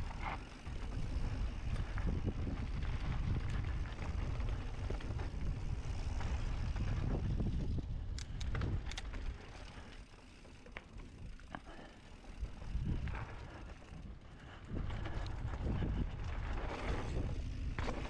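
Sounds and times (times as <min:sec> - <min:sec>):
wind buffeting microphone: 0:00.0 - 0:09.4, 0:12.4 - 0:18.0
bike clicks and rattles: 0:00.0 - 0:18.0.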